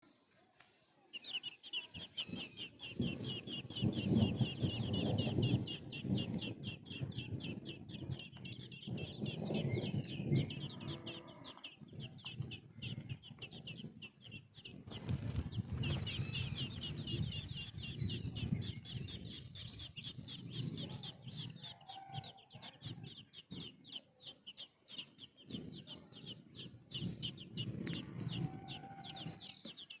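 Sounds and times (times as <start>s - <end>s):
baby birds chirping: 0.7s - 30.0s.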